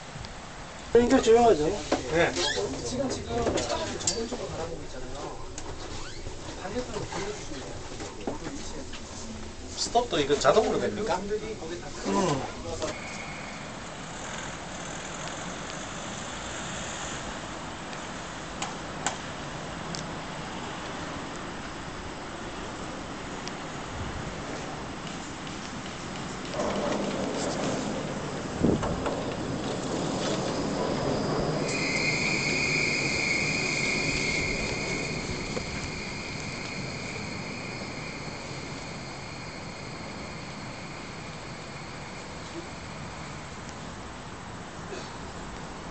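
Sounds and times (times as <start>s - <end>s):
maglev train electrical whine: 0.0s - 45.9s
steady open-air hiss: 0.0s - 45.9s.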